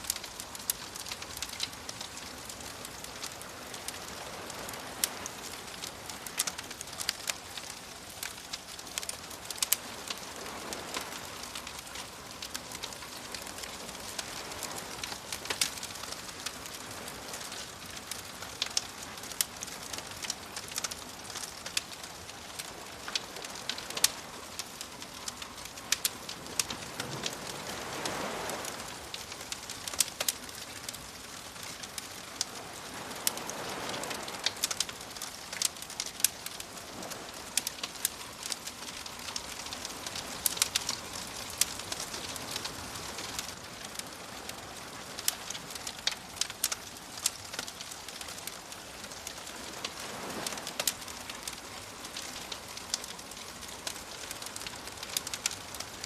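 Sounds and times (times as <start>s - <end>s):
waves washing: 0.0s - 54.2s
wood fire crackling: 0.0s - 56.0s.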